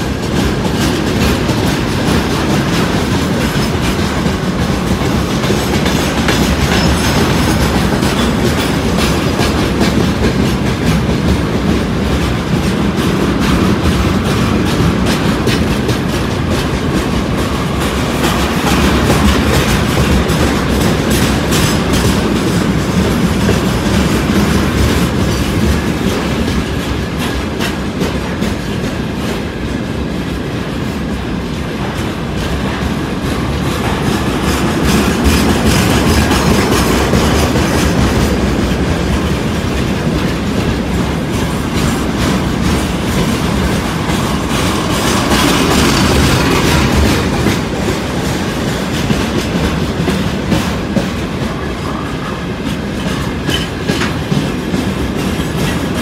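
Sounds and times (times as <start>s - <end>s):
freight train rolling past: 0.0s - 56.0s
wheels clattering over rail joints: 0.0s - 56.0s.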